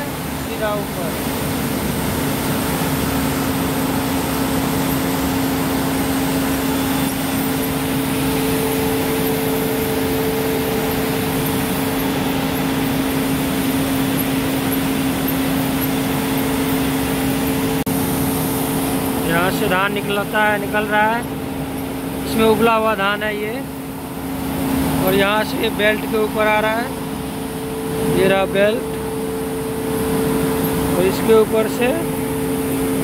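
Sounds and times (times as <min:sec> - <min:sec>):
mill machinery humming din: 0:00.0 - 0:33.0.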